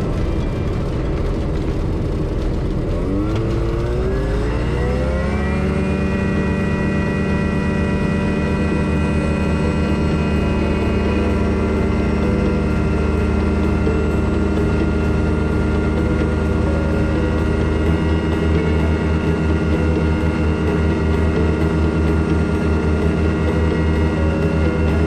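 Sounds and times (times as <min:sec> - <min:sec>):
light aircraft engine and propeller: 0:00.0 - 0:25.0.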